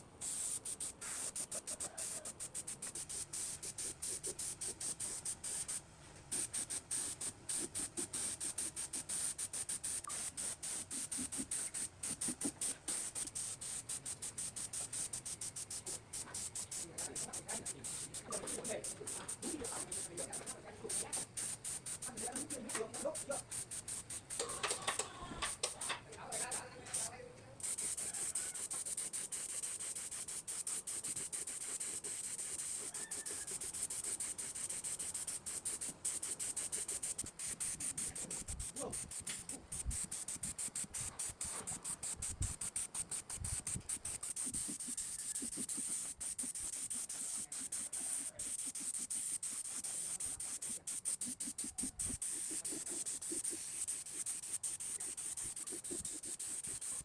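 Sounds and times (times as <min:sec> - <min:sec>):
hand sanding: 0:00.0 - 0:24.9, 0:25.5 - 0:57.0.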